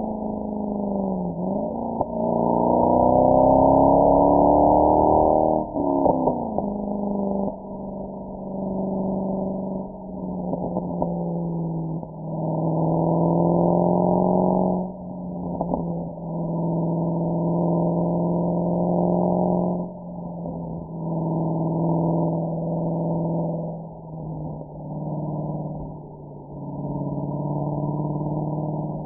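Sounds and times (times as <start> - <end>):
car exhaust droning: 0.0 - 29.0.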